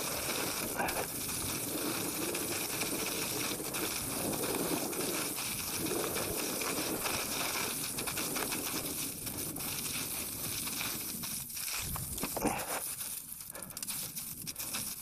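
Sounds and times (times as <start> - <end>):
bike clicks and rattles: 0.0 - 15.0.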